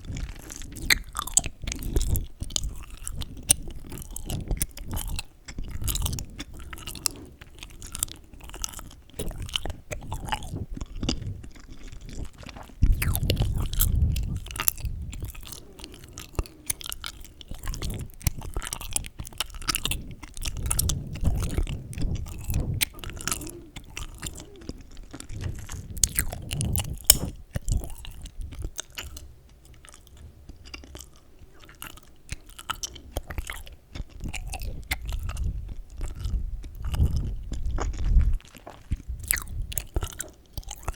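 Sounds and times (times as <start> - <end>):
chewing gum mouth sounds: 0.0 - 40.9.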